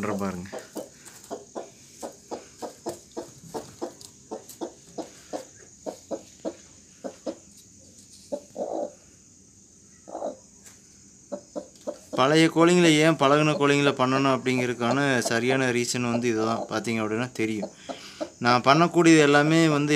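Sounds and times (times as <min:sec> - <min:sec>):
hen clucking: 0:00.0 - 0:09.0, 0:10.0 - 0:10.6, 0:11.2 - 0:18.5.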